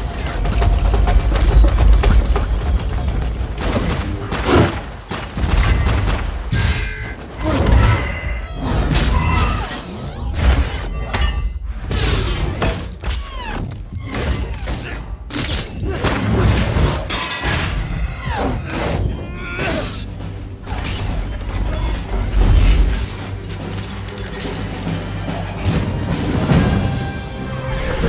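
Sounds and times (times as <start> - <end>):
film score music: 0.0 - 28.0.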